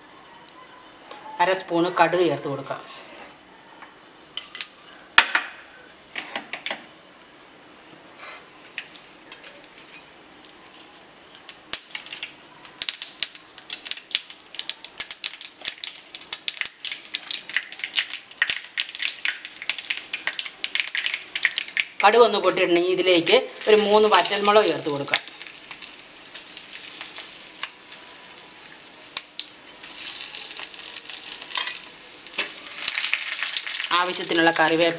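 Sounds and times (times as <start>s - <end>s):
oil sizzling faintly: 0.0s - 34.9s.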